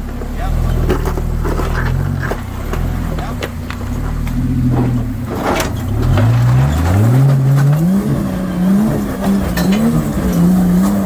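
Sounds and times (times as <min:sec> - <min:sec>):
engine revving under load: 0:00.0 - 0:11.0.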